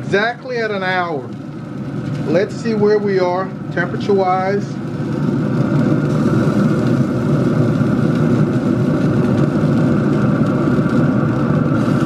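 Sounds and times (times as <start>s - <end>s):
grill fans whirring: 0.0s - 12.0s.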